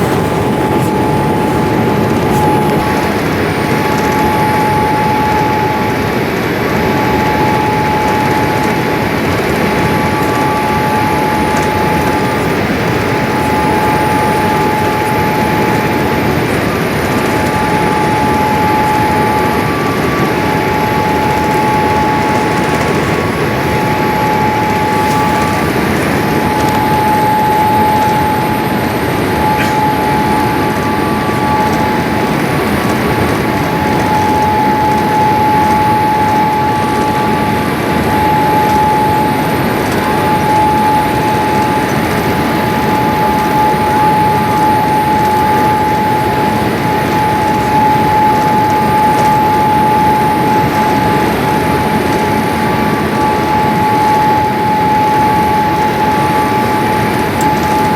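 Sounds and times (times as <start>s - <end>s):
aircraft engine and airflow rush: 0.0s - 57.9s
thin steady whine: 0.0s - 57.9s.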